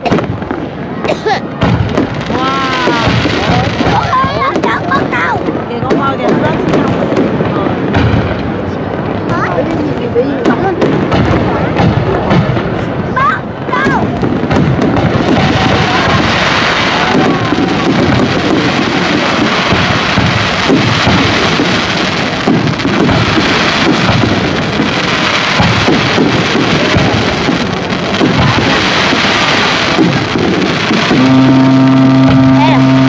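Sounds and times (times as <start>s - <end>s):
fireworks crackling and rumbling: 0.0s - 33.0s.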